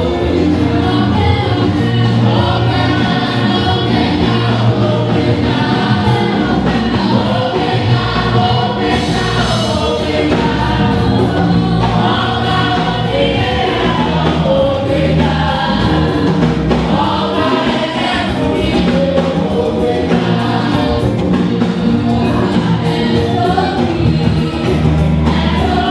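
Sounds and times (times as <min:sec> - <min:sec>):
bass line: 0:00.0 - 0:25.9
choir singing gospel song: 0:00.0 - 0:25.9
steady percussive beat: 0:00.0 - 0:25.9.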